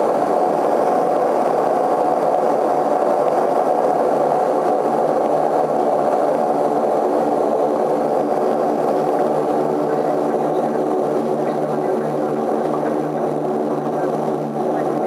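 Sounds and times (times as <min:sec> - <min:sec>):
turboprop engines droning in cabin: 0:00.0 - 0:15.0.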